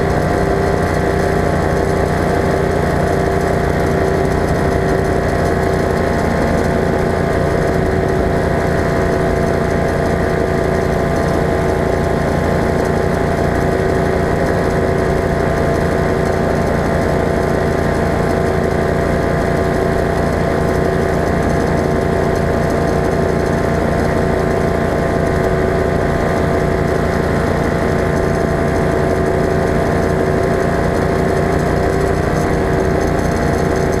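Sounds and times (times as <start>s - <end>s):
light aircraft engine running: 0.0s - 34.0s.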